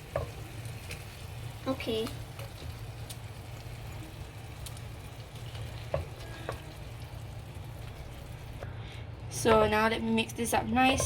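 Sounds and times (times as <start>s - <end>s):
gravy sizzling in a frying pan: 0.0s - 11.0s.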